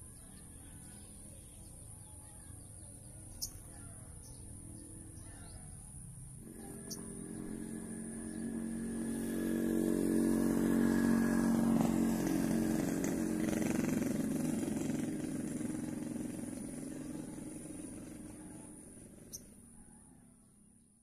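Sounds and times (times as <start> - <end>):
vehicle engine passing by: 2.7 - 21.0.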